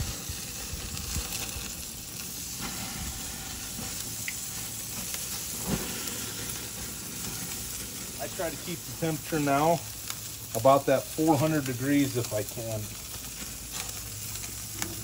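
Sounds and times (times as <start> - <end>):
faint crackles: 0.0 - 15.0
fish sizzling on a grill: 0.0 - 15.0.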